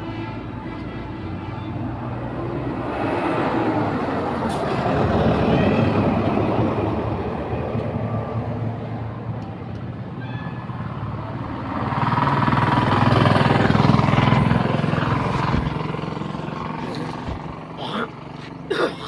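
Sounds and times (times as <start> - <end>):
vehicles passing with engine drone: 0.0 - 19.0.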